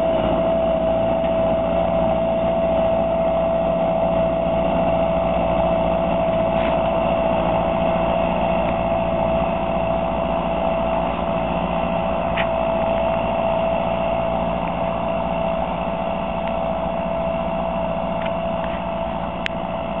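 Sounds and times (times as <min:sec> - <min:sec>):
steady engine whine: 0:00.0 - 0:20.0
tractor diesel engine running: 0:00.0 - 0:20.0.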